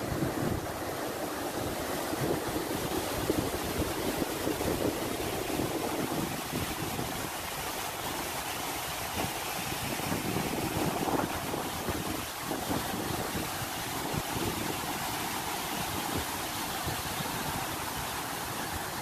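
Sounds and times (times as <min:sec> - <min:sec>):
wind buffeting microphone: 0:00.0 - 0:08.1, 0:08.8 - 0:19.0
waterfall roaring over rocks: 0:00.0 - 0:19.0.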